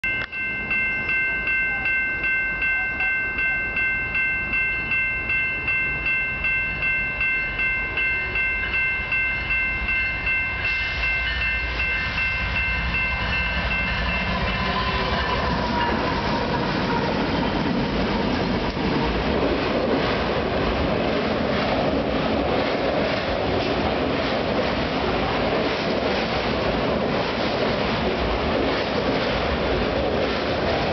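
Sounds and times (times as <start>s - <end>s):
railroad crossing bell ringing: 0.0s - 30.9s
freight train rumbling past: 0.4s - 30.9s.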